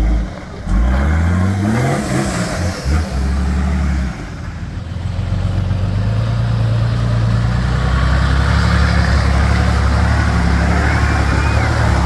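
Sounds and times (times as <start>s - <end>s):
four-wheel drive engine at low revs: 0.0s - 12.0s.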